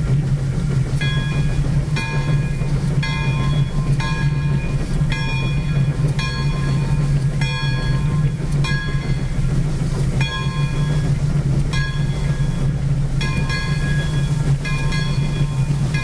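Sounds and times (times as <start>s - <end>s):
steam locomotive rumble: 0.0s - 16.0s
locomotive bell ringing: 0.9s - 16.0s.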